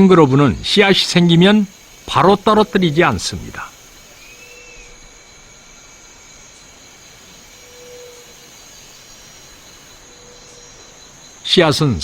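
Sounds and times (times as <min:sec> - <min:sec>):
high insect-like tones: 0:00.0 - 0:12.0
steady outdoor hiss: 0:00.0 - 0:12.0.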